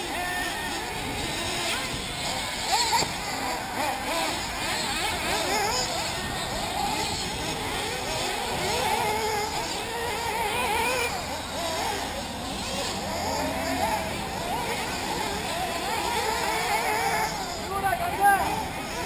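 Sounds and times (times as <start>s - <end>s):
rc buggy engines revving: 0.0s - 19.0s.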